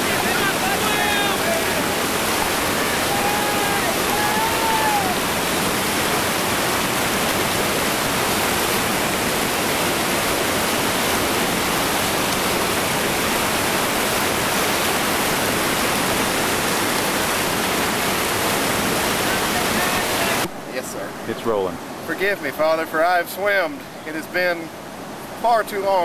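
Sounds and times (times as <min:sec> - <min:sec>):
whitewater rapids rushing: 0:00.0 - 0:26.0.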